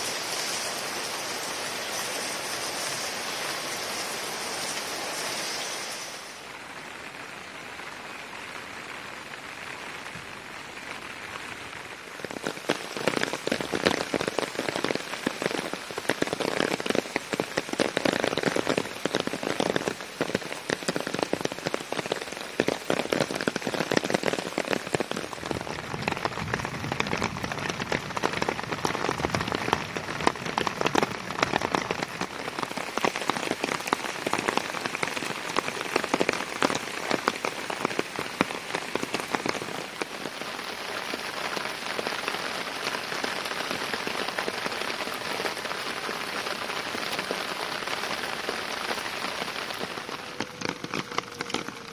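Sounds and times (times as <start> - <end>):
rain pattering: 0.0 - 51.9.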